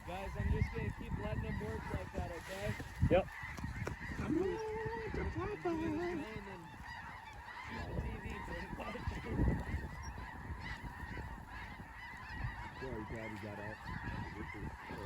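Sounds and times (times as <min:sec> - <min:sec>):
snow geese calling: 0:00.0 - 0:15.0.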